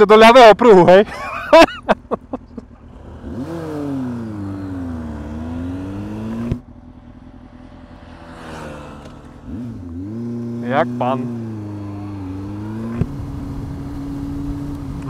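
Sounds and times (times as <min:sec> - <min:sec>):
motorcycle engine accelerating: 0:01.1 - 0:15.0.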